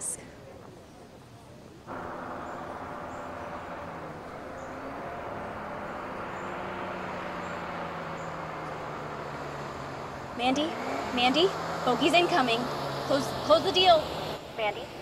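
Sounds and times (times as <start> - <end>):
car engine running: 1.9 - 14.5.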